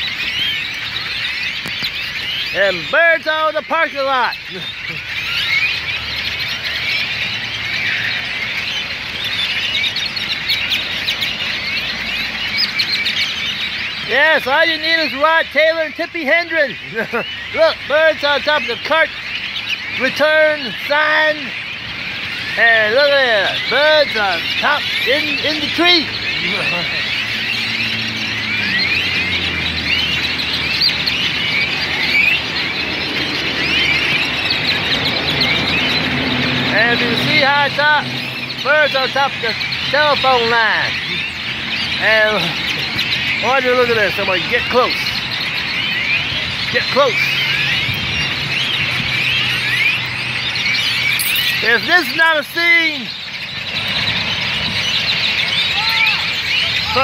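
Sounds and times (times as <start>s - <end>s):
flock of birds chirping: 0.0s - 57.0s.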